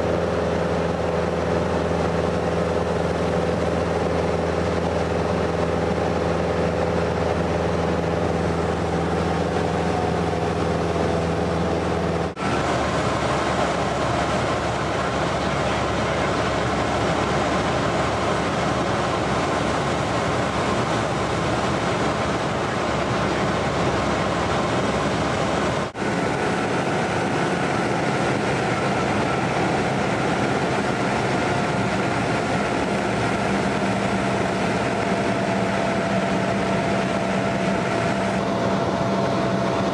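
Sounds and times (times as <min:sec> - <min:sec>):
aircraft engine and propeller in flight: 0:00.0 - 0:39.9.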